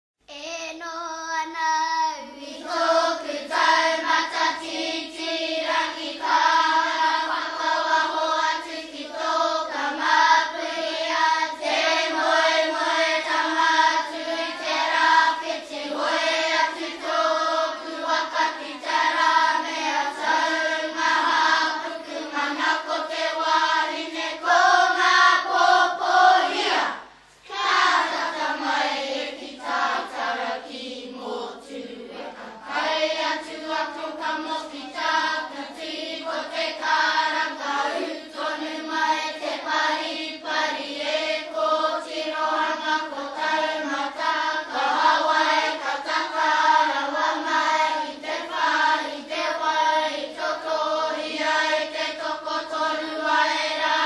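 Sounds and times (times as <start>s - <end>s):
group of voices singing: 0.7s - 54.0s.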